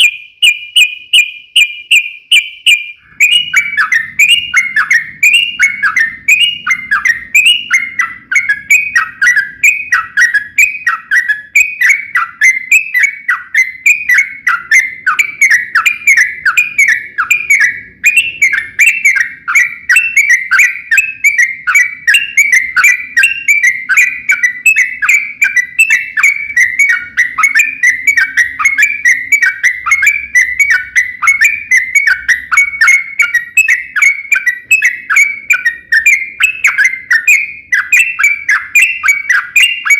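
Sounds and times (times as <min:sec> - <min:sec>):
bulbul singing bubbly chattering notes: 0:01.6 - 0:39.9.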